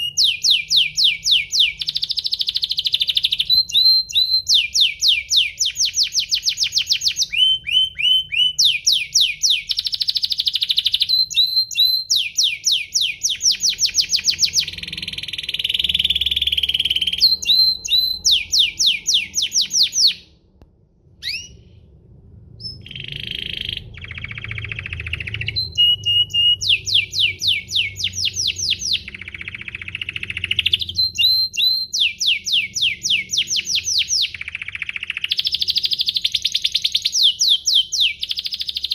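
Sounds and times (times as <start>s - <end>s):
canary singing trills: 0.0s - 20.3s, 21.2s - 21.7s, 22.6s - 38.9s.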